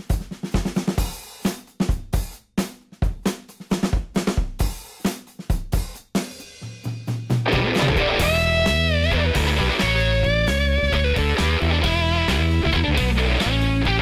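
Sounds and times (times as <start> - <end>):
rock drum beat: 0.0 - 14.0.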